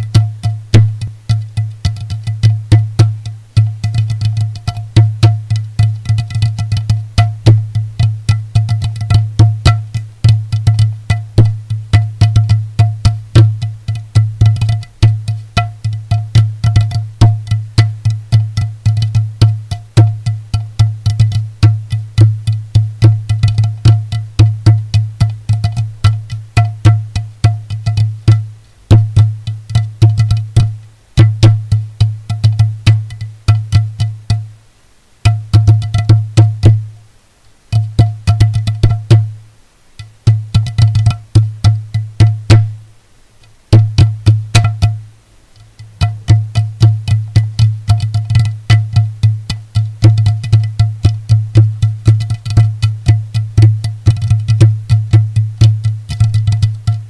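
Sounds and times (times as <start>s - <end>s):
quick percussive hits: 0.0s - 34.5s, 35.2s - 36.9s, 37.7s - 39.4s, 40.0s - 42.8s, 43.7s - 45.1s, 45.7s - 57.0s
deep steady bass note: 0.0s - 34.6s, 45.8s - 57.0s.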